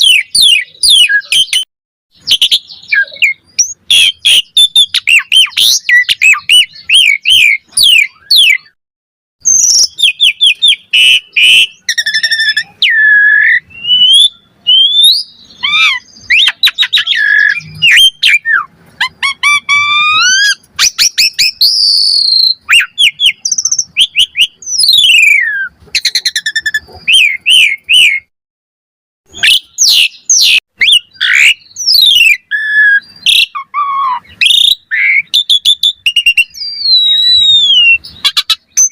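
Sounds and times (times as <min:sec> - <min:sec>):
starling singing: 0:00.0 - 0:08.8, 0:09.4 - 0:28.3, 0:29.3 - 0:38.9.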